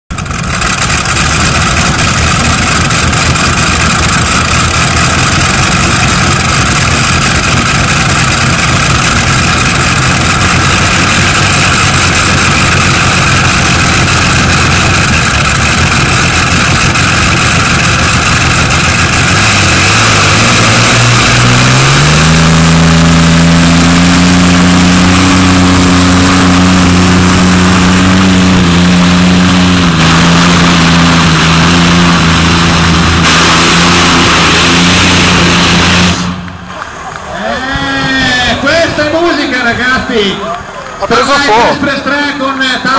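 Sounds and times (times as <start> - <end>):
tractor engine revving: 0.1 - 42.9.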